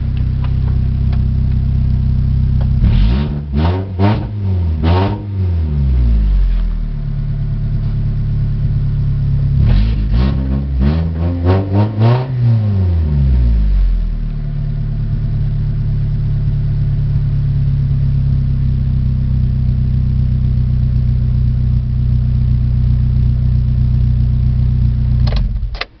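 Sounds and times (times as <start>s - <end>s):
car engine revving and idling: 0.0s - 25.9s.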